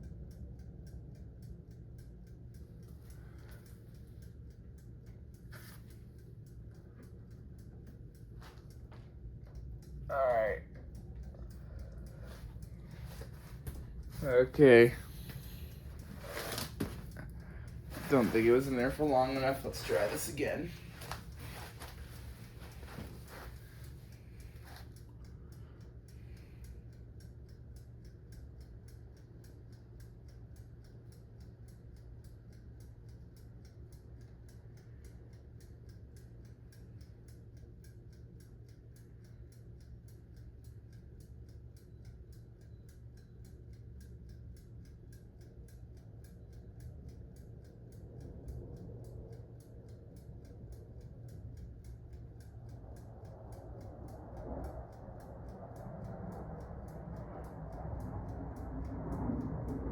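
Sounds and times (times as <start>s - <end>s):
dial timer ticking rapidly: 0.0s - 59.9s
low steady hum: 0.0s - 59.9s.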